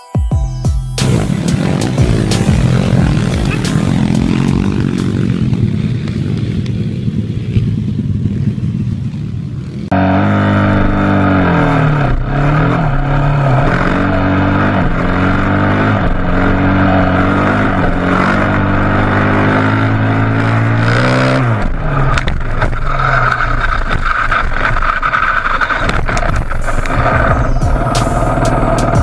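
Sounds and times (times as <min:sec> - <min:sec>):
dirt bike engine revving: 0:01.0 - 0:08.0, 0:09.6 - 0:29.0.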